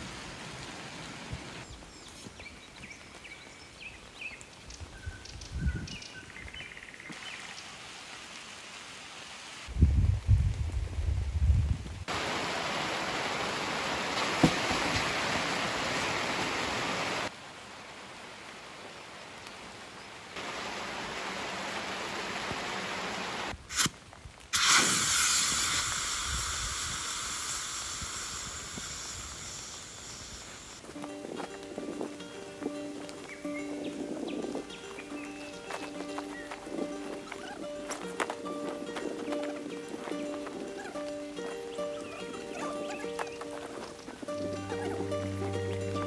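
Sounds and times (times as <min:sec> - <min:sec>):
heavy rain hissing: 0:00.0 - 0:05.0, 0:07.2 - 0:46.0.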